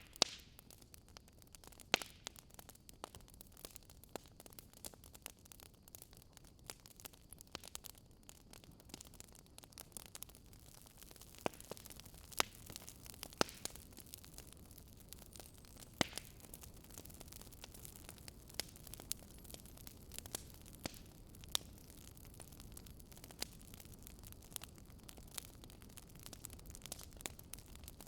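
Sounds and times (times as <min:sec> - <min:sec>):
soft steady hiss: 0:00.0 - 0:28.0
wood fire crackling: 0:00.0 - 0:28.0.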